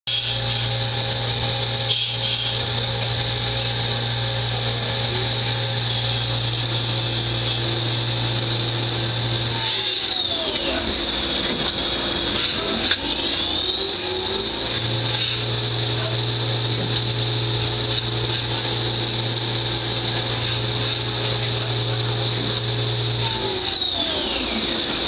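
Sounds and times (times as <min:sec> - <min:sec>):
lathe spindle whine: 0:00.1 - 0:25.0.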